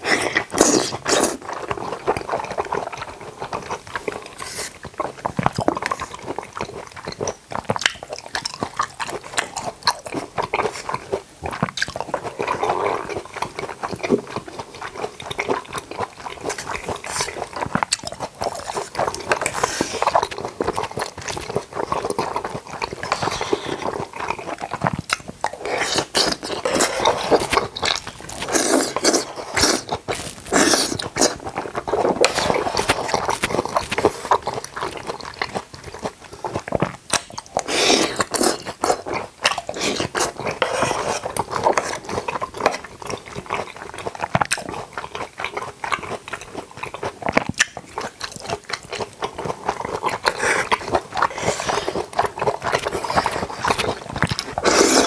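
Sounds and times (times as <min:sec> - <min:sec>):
chewing and wet mouth sounds: 0:00.0 - 0:55.0.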